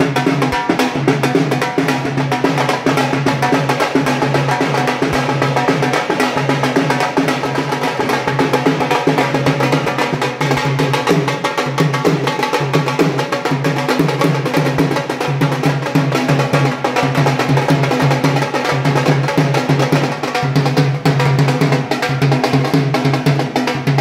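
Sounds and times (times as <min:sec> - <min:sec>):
drums beating fast rhythm: 0:00.0 - 0:24.0.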